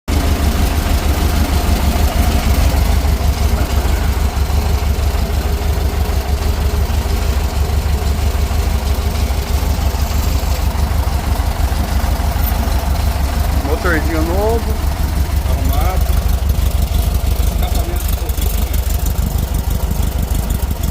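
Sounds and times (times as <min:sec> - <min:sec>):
car engine idling: 0:00.1 - 0:20.9.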